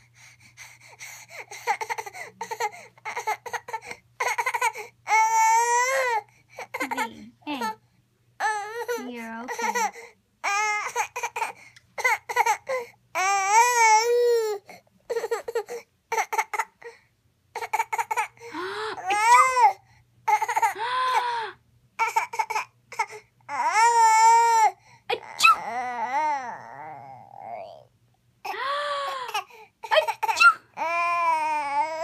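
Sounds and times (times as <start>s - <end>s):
baby crying and babbling: 1.4s - 7.8s, 8.4s - 17.0s, 17.6s - 21.4s, 22.0s - 32.0s.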